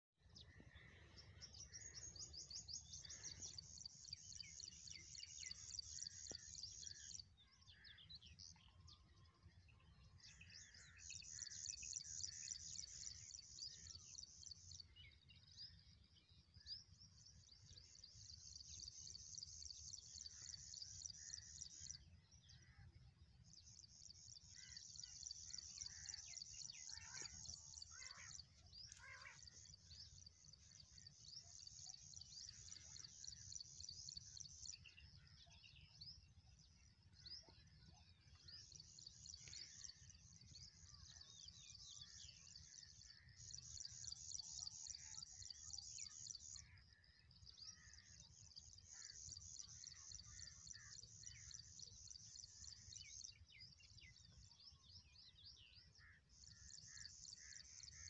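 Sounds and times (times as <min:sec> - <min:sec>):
soft bird chirps: 0:00.2 - 0:58.0.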